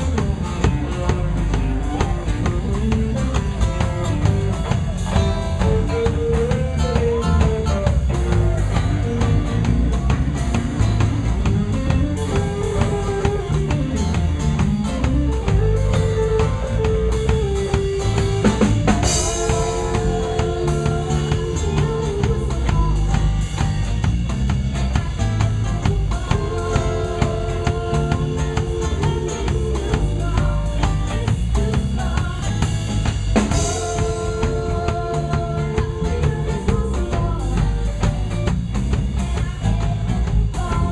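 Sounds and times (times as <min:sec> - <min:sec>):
melodic lead line: 0:00.0 - 0:40.8
bass line: 0:00.0 - 0:40.9
drum kit beat: 0:00.0 - 0:40.9.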